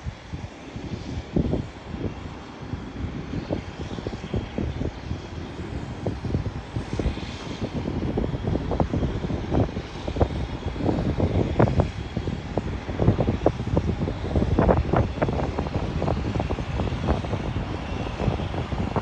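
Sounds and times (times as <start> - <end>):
aircraft engine noise: 0.0 - 19.0
wind buffeting microphone: 0.0 - 19.0.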